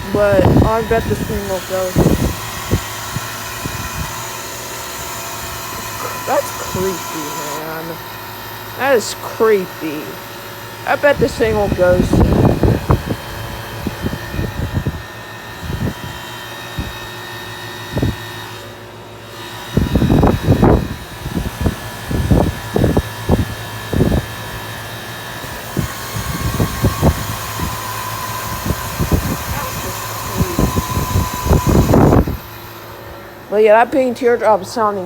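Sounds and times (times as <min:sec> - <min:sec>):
high steady whine: 0:00.0 - 0:18.9, 0:19.6 - 0:35.0
heat pump unit humming: 0:00.0 - 0:35.0.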